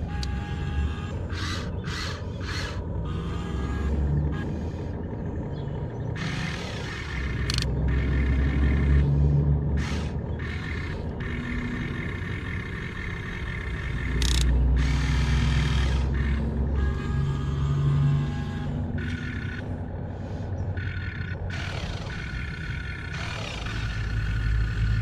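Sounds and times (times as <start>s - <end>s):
toy excavator motors whirring: 0.0s - 5.0s, 6.1s - 25.0s.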